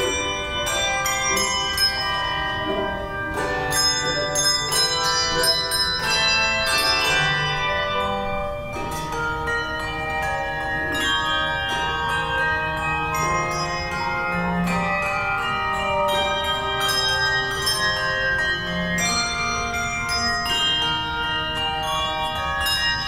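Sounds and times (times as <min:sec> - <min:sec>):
handbell choir playing: 0:00.0 - 0:23.0.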